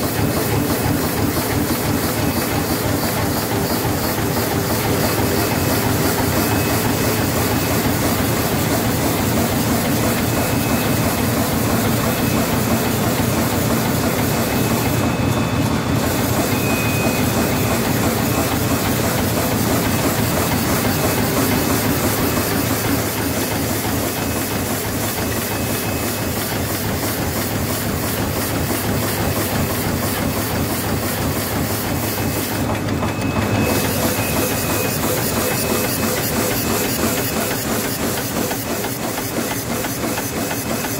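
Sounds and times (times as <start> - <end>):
machine clattering: 0.0 - 40.9
machine hiss: 0.0 - 40.9.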